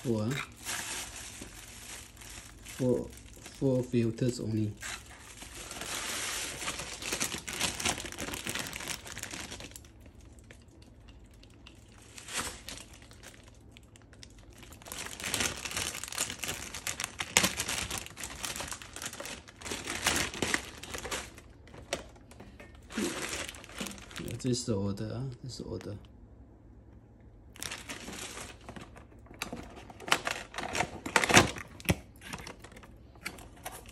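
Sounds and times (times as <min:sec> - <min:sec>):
plastic bags crinkling: 0:00.0 - 0:24.7, 0:27.5 - 0:33.9
sharp plastic crackle: 0:00.0 - 0:26.2, 0:27.5 - 0:33.9.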